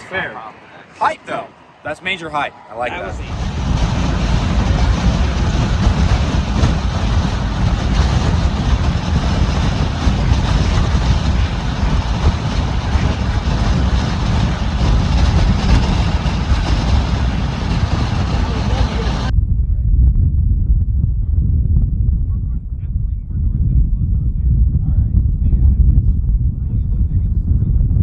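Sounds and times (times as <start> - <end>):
car road and wind noise: 0.0 - 28.0.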